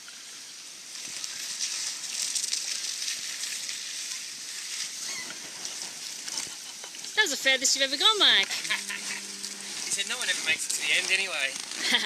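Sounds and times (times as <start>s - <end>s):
body skidding down water slide: 1.0s - 12.0s.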